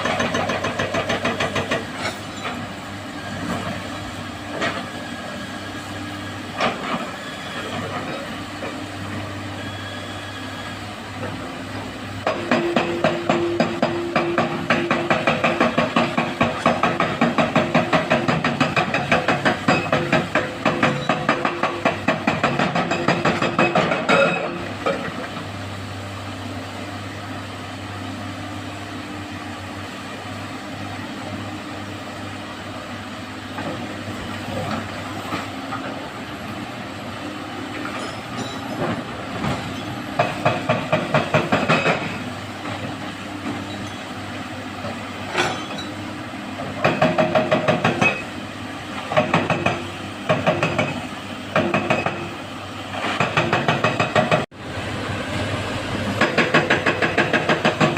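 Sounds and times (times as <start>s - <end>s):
excavator engine humming: 0.0s - 57.9s.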